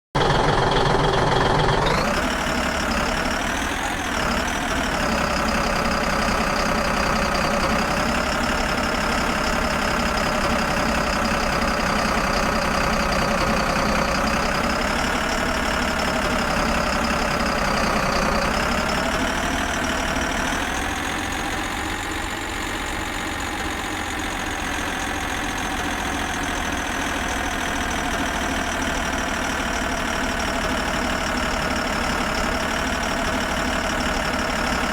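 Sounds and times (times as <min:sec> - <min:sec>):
motor running steadily: 0:00.2 - 0:22.6, 0:23.6 - 0:34.9.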